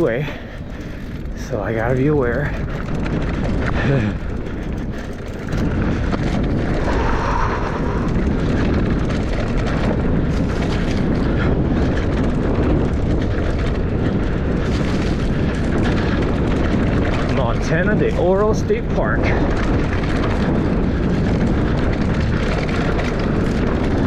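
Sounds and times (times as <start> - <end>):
bike tyres on dirt trail: 0.0 - 24.0
wind rushing: 0.0 - 24.0.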